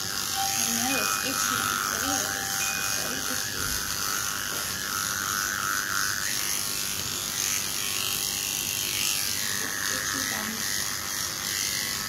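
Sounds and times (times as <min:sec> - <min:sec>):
electric clipper running: 0:00.0 - 0:12.0.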